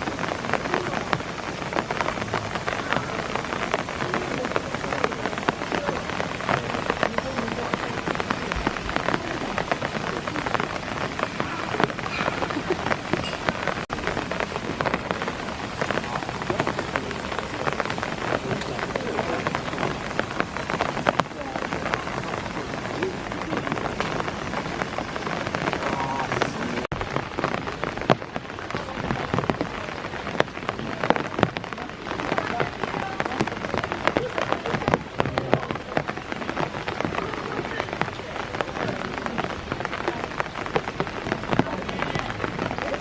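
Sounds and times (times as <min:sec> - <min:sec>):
close raindrop hits: 0:00.0 - 0:43.0
steady rain pattering: 0:00.0 - 0:43.0.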